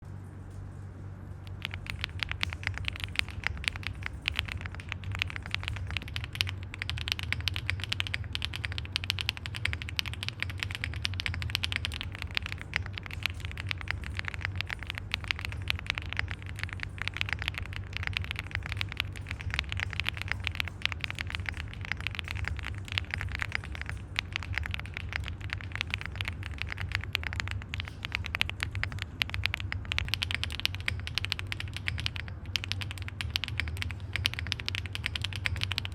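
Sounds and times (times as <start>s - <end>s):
fast mechanical keyboard typing: 1.4s - 35.9s.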